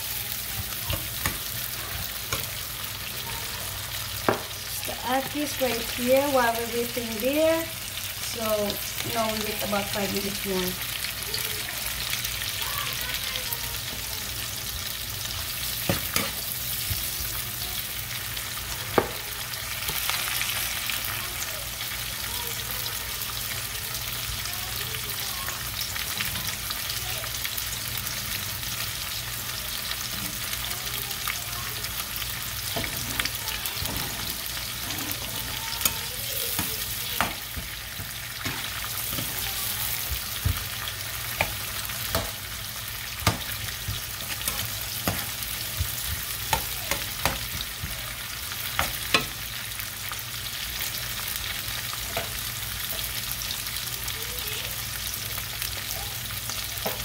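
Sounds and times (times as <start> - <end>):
onions sizzling in a frying pan: 0.0 - 57.0.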